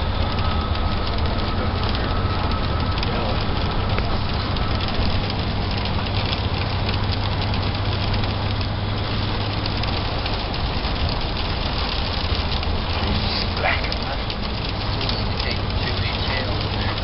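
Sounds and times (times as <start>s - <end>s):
engine and road noise: 0.0s - 17.0s
rain on vehicle roof: 0.0s - 17.0s.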